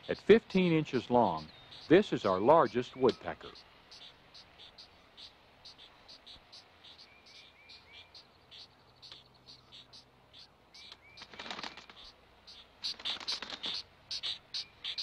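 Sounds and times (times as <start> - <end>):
nestlings chirping: 0.0 - 15.0.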